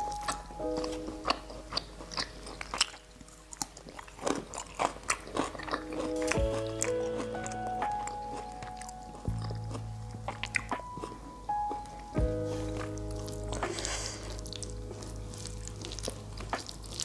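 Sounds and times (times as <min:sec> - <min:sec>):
chewing and crunching: 0:00.0 - 0:17.0
soft background music: 0:00.0 - 0:17.0.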